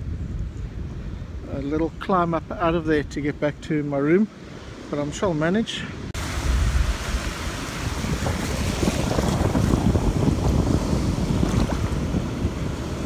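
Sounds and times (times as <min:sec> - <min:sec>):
wind buffeting microphone: 0:00.0 - 0:05.3, 0:05.9 - 0:13.0
surf washing in: 0:01.0 - 0:13.0.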